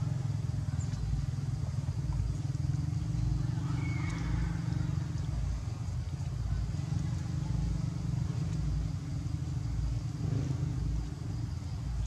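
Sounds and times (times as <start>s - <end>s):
motorbike engine rumbling: 0.0s - 12.0s.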